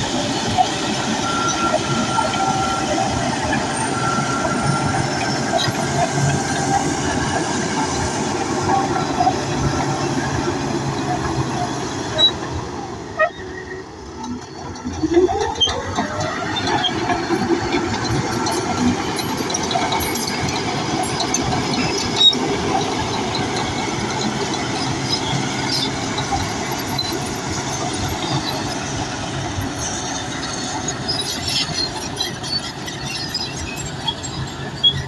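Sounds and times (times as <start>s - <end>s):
bulldozer engine running: 0.0s - 35.0s
steel tracks clattering and squealing: 0.0s - 35.0s.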